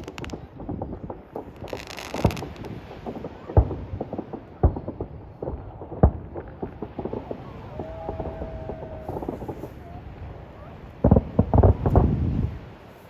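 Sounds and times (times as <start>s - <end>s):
firework booms: 0.0s - 12.8s
firework pops and crackles: 0.0s - 12.9s.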